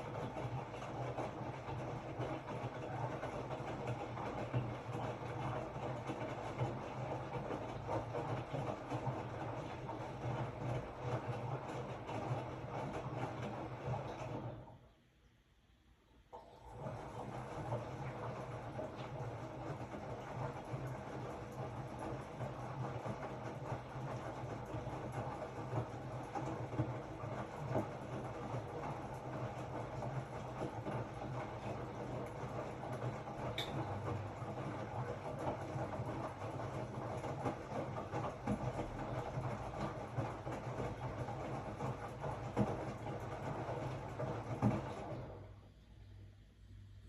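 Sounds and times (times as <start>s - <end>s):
washing machine humming: 0.0s - 47.0s.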